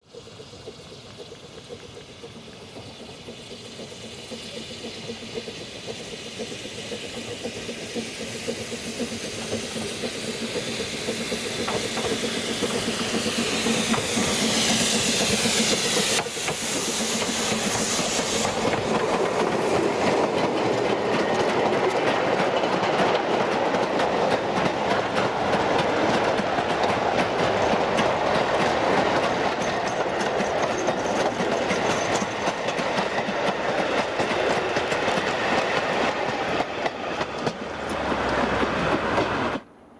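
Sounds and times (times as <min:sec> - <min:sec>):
steam hissing: 0:00.0 - 0:39.6
steam train clickety-clack: 0:00.0 - 0:39.8.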